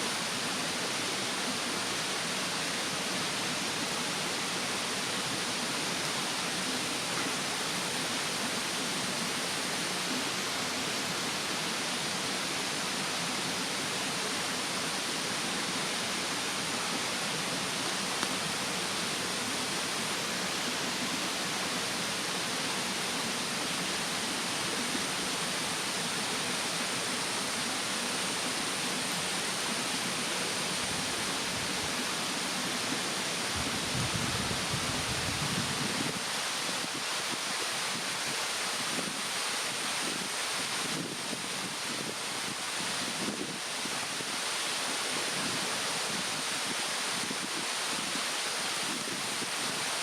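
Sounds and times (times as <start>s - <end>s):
mountain stream rushing: 0.0s - 50.0s.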